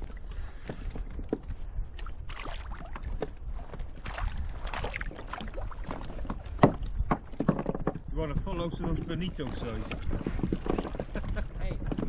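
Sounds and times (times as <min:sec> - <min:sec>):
water splashing against kayak hull: 0:00.0 - 0:12.0.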